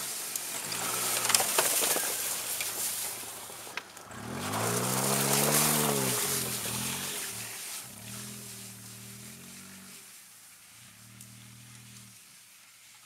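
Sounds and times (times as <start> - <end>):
chained tyres on snow and ice: 0.0 - 13.0
small car engine revving: 0.4 - 12.2.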